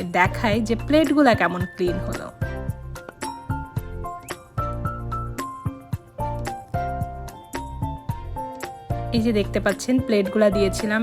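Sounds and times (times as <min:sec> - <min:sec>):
light upbeat music: 0:00.0 - 0:11.0.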